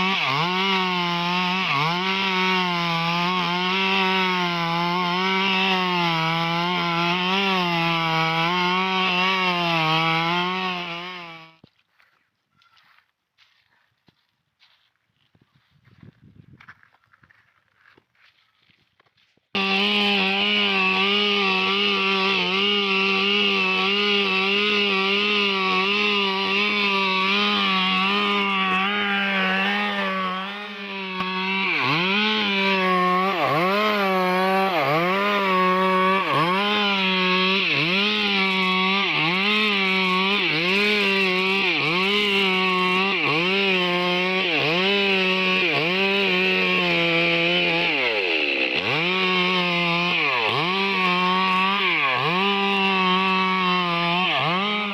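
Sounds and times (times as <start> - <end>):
chainsaw cutting wood: 0.0 - 12.2, 19.5 - 54.9.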